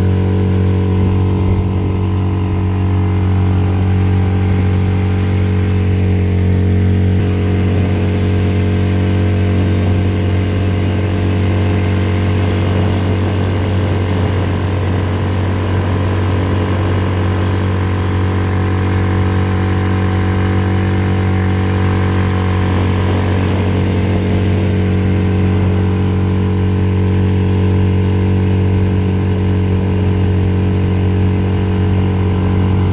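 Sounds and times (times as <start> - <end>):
outboard motor running: 0.0 - 32.9.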